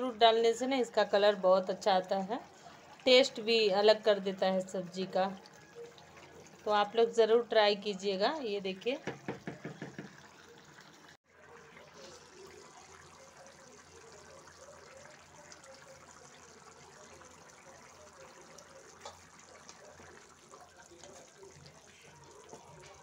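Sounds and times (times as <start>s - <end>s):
curry bubbling in a pan: 0.1s - 23.0s.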